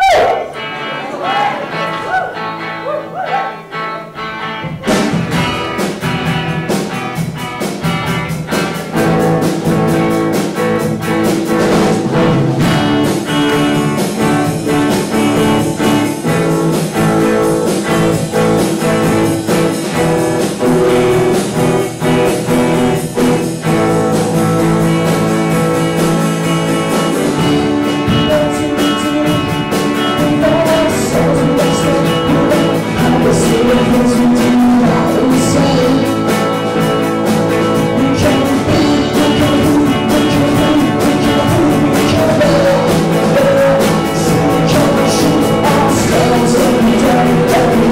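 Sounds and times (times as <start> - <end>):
acoustic guitar: 0.0 - 47.9.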